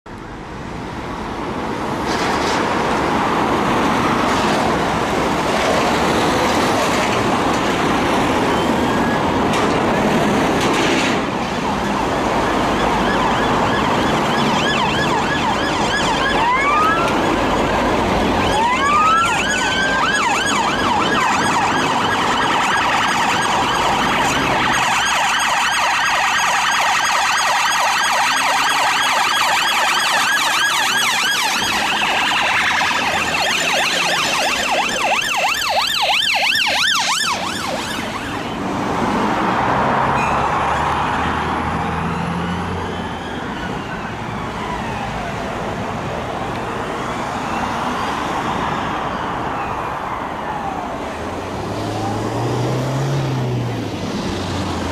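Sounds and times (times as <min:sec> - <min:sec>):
passing traffic: 0:00.1 - 0:54.9
sirens yelping: 0:02.7 - 0:54.9
police siren wailing: 0:02.8 - 0:54.9.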